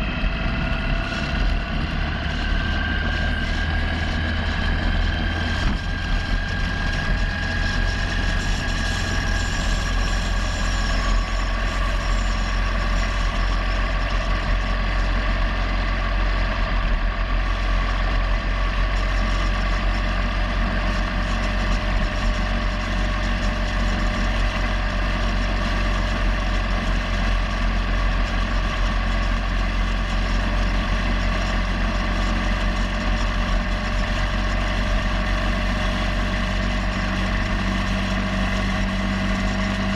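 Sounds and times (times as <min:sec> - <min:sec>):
low rumble: 0:00.0 - 0:39.9
motorcycle engine cruising: 0:00.0 - 0:39.9.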